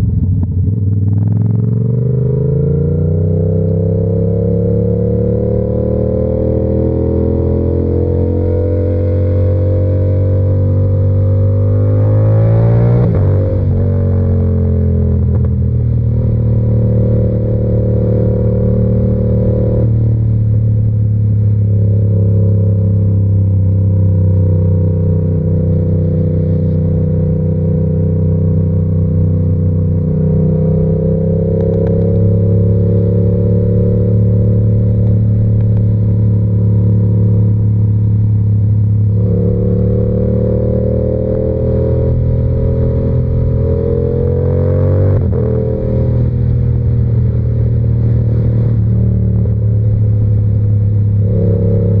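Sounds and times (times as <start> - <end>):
motorcycle engine cruising: 0.0 - 52.0.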